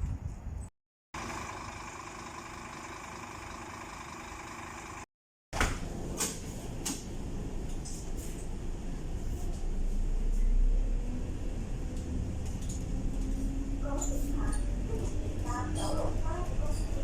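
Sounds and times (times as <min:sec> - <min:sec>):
bus engine hum: 0:01.2 - 0:05.1, 0:07.2 - 0:17.0.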